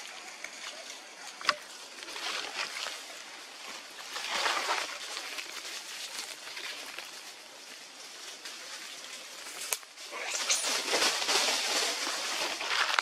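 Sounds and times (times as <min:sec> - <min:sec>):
steady forest hiss: 0:00.0 - 0:13.0.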